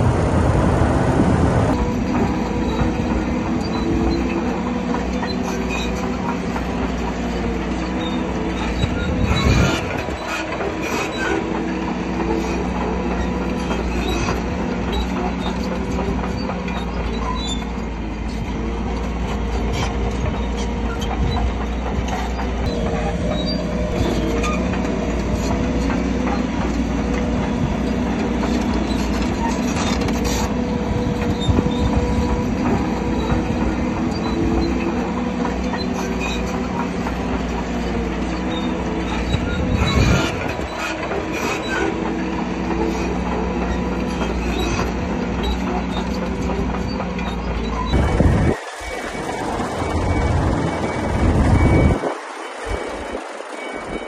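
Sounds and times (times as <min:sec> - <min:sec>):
diesel engine running: 0:00.0 - 0:54.0
steel tracks clanking and squealing: 0:00.0 - 0:54.0.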